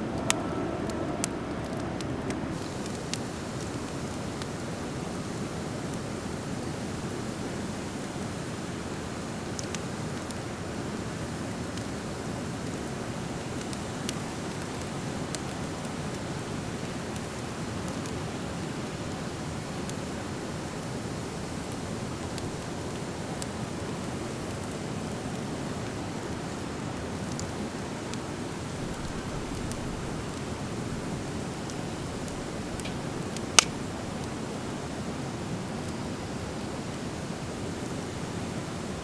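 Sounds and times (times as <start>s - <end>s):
fire crackling and popping: 0.1s - 39.0s.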